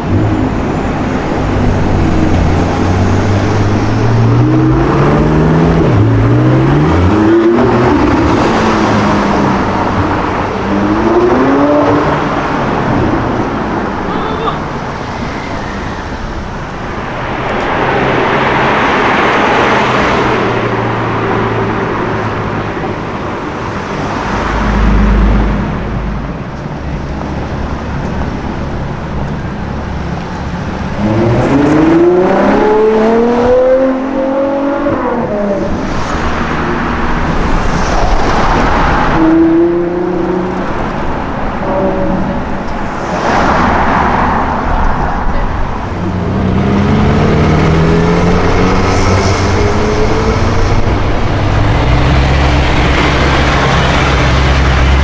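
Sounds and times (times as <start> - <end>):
car engine revving: 0.0 - 55.0
cars driving past: 0.0 - 55.0.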